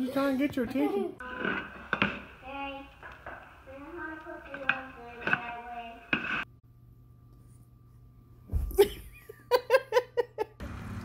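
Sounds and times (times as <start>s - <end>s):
faint hum: 1.2s - 10.6s.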